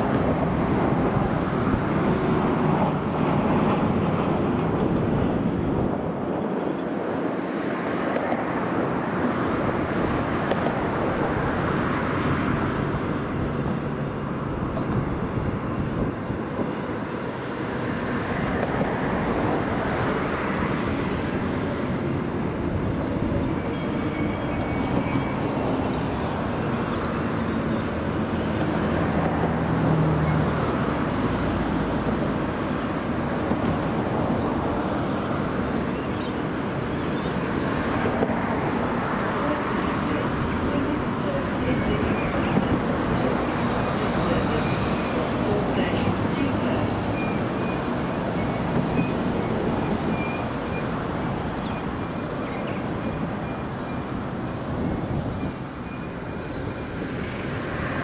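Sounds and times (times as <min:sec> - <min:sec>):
electric train hum: 0:00.0 - 0:58.0
steady outdoor rush: 0:00.0 - 0:58.0.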